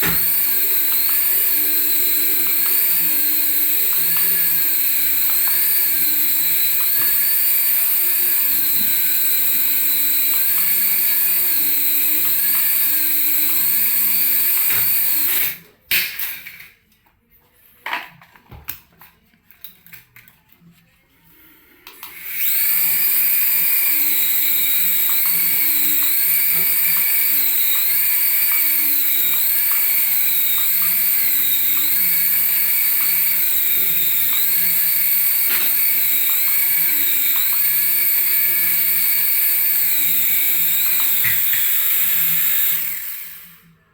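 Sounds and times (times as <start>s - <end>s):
toy motor whining: 0.0s - 15.6s, 21.2s - 43.7s.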